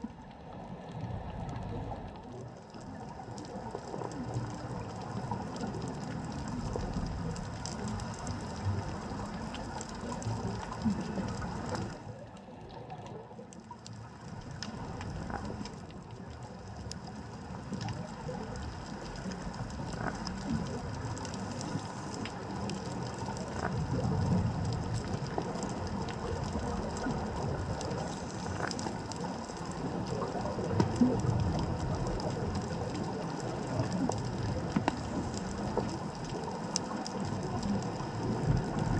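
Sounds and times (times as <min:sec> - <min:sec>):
low underwater rumble: 0:00.0 - 0:38.9
sharp clicks and crackles: 0:00.0 - 0:38.9.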